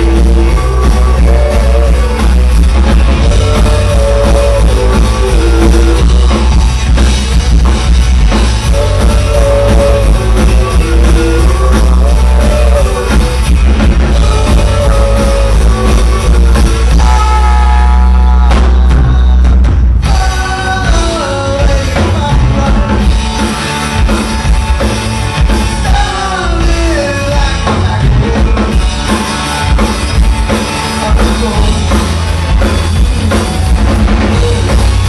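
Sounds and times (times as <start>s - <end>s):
rock band playing live: 0.0s - 35.0s.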